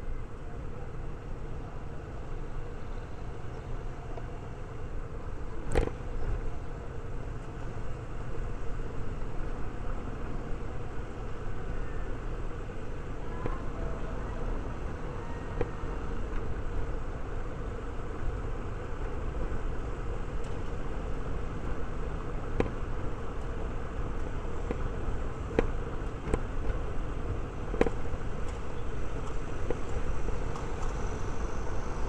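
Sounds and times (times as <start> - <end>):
van engine and tyre rumble: 0.0 - 32.0.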